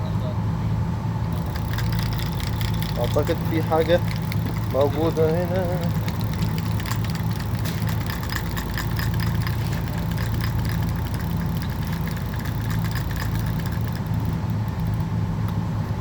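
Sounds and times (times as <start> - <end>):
boat engine idling: 1.3 - 15.4
light clicking: 1.4 - 15.6.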